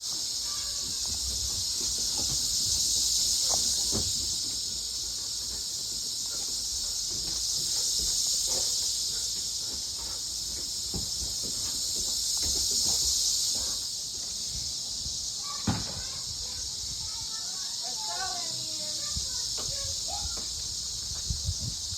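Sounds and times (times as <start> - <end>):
cicadas buzzing: 0.0 - 21.9.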